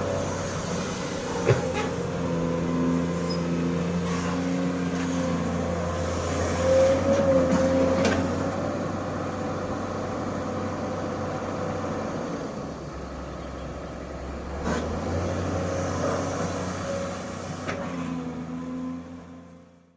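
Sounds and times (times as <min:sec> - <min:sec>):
diesel engine running under load: 0:00.0 - 0:19.9.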